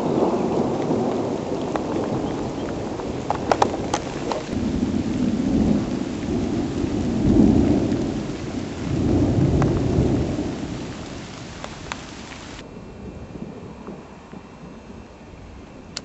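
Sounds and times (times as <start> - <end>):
thunder rumbling: 0.0 - 15.9
steady rain: 0.0 - 16.0.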